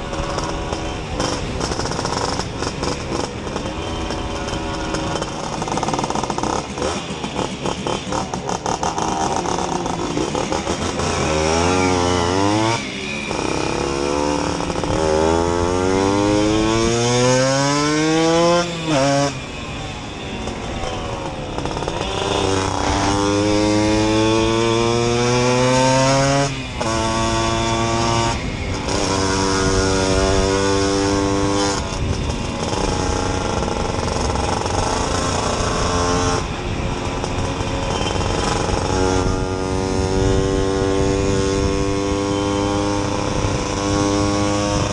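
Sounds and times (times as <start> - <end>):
moped engine accelerating: 0.0 - 44.9.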